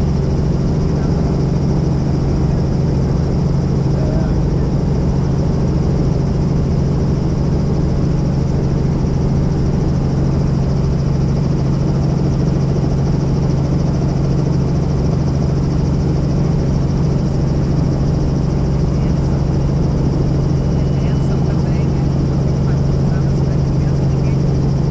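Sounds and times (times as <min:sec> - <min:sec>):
helicopter rotor and engine drone: 0:00.0 - 0:24.9.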